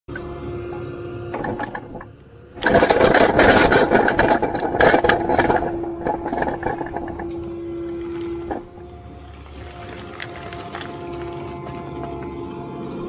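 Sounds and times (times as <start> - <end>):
excavator engine hum: 0.1 - 13.0
excavator bucket crunching rock: 0.7 - 13.0.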